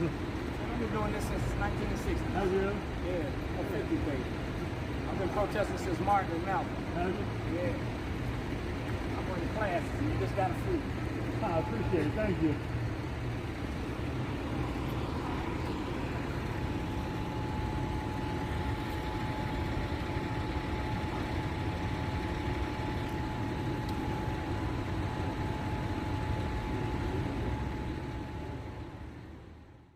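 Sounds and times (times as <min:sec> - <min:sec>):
thin steady whine: 0:00.0 - 0:29.9
vehicle engine rumble: 0:00.0 - 0:29.9.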